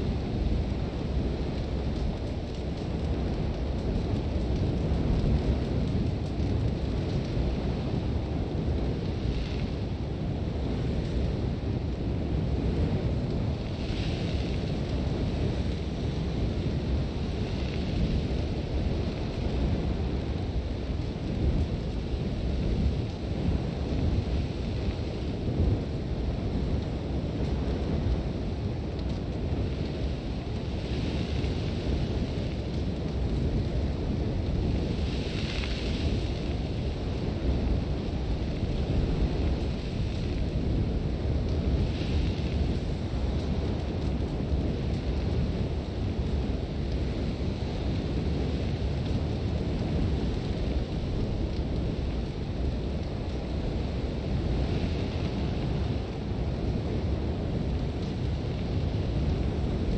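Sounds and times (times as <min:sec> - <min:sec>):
low rumble of buffeting wind: 0:00.0 - 0:59.9.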